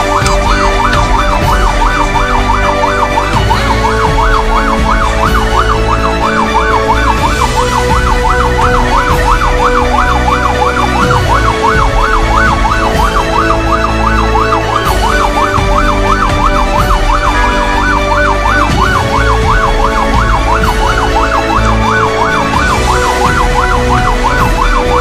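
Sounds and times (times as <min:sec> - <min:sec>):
electronic siren yelp: 0:00.0 - 0:25.0.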